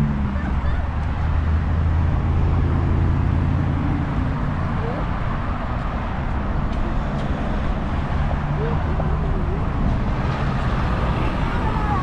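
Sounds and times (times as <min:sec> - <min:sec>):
road traffic engine hum: 0:00.0 - 0:12.0.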